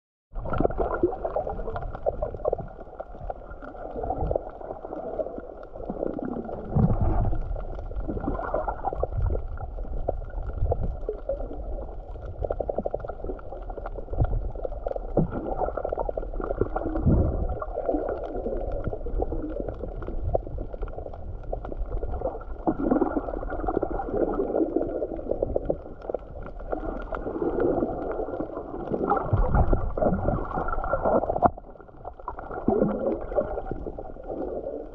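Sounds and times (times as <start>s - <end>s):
underwater water rush and gurgle: 0.3s - 34.9s.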